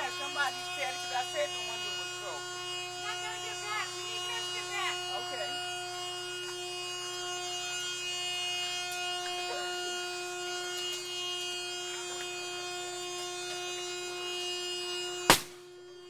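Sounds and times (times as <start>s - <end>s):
steady buzzing hum: 0.0s - 16.0s.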